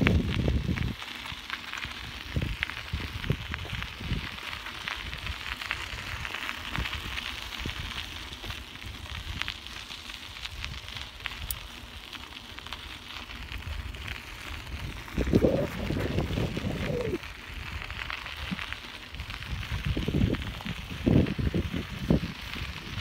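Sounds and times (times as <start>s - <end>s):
bicycle tyres crunching on gravel: 0.0s - 23.0s
low rumble of bike: 0.0s - 23.0s.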